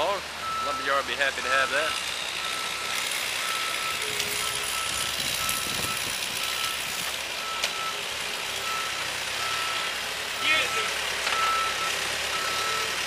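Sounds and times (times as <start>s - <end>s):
engine noise: 0.0s - 13.0s
wind: 0.0s - 13.0s
reversing alarm beeping: 0.4s - 1.0s, 1.8s - 8.0s, 8.6s - 13.0s.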